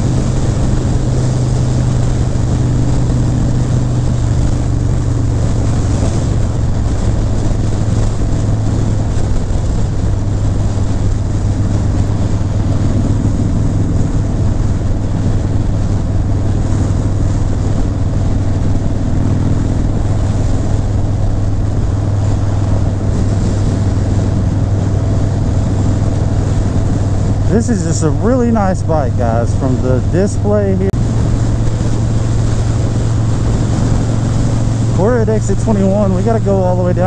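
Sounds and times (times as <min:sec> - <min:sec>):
motorcycle engine cruising: 0:00.0 - 0:37.0
wind and road rush: 0:00.0 - 0:37.0.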